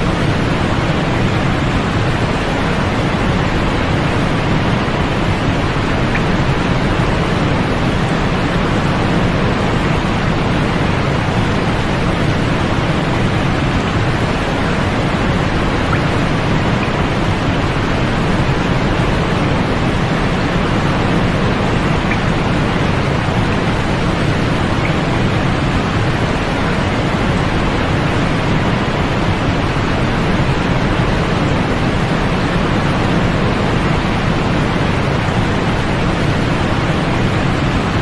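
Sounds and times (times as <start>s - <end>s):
white noise hiss: 0.0s - 38.0s.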